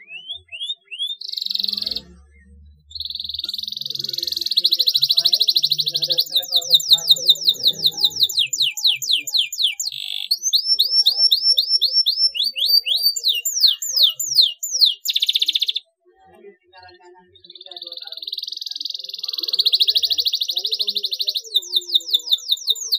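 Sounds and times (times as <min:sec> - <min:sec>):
canary singing: 0:00.0 - 0:16.0, 0:16.6 - 0:22.9.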